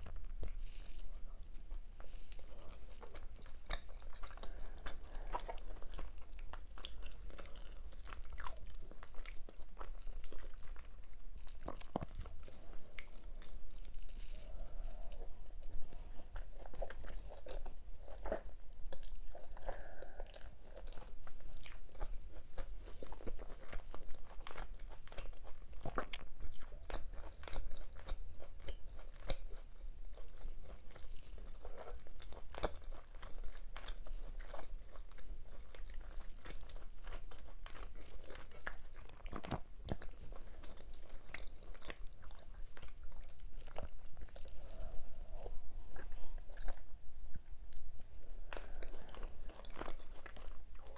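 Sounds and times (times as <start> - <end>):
person chewing food crunchily: 0.0 - 50.9.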